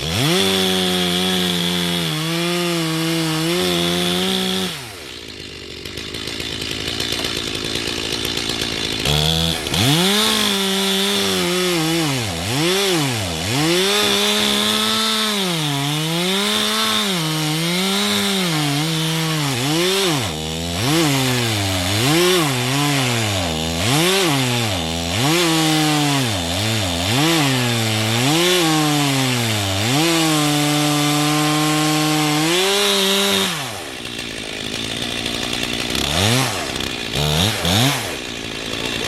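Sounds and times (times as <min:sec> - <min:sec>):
chainsaw cutting wood: 0:00.0 - 0:39.0
chainsaw idling and revving: 0:00.0 - 0:39.0.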